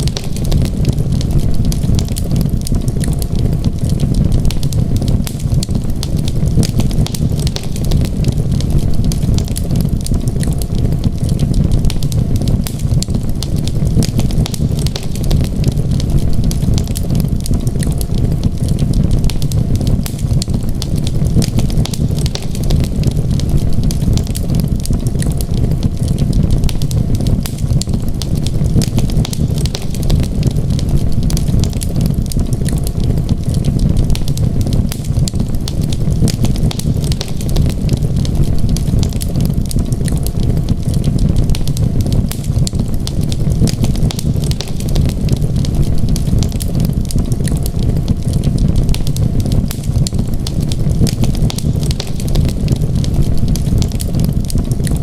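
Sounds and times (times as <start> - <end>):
low rumble: 0.0 - 55.0
wood fire crackling and popping: 0.0 - 55.0.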